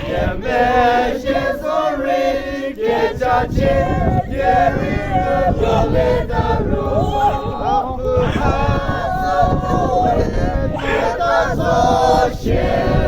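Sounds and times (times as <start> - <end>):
choir chanting: 0.0 - 13.0.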